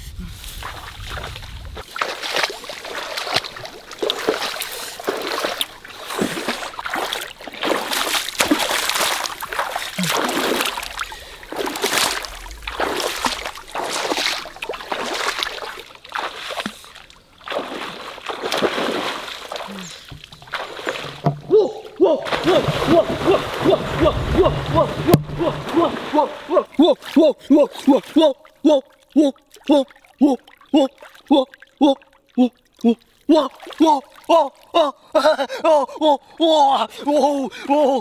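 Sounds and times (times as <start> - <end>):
splashing through muddy water: 0.4 - 38.0.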